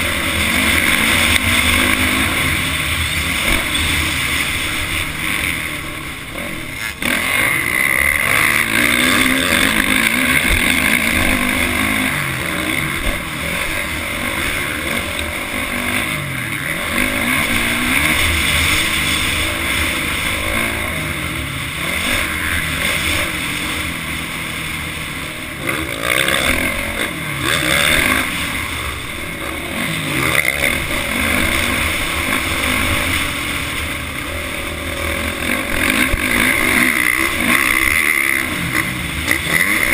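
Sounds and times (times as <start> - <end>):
dirt bike engine revving: 0.0 - 39.9
rushing noise: 0.0 - 39.9.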